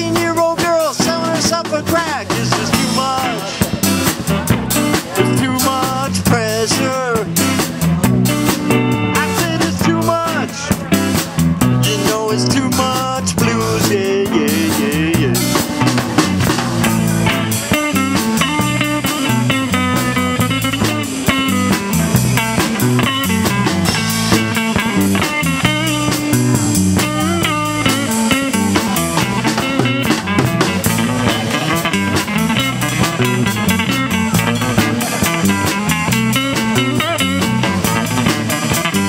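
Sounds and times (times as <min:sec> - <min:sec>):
bass guitar: 0:00.0 - 0:39.0
drum kit: 0:00.0 - 0:39.0
lead guitar with bent notes: 0:00.0 - 0:39.0.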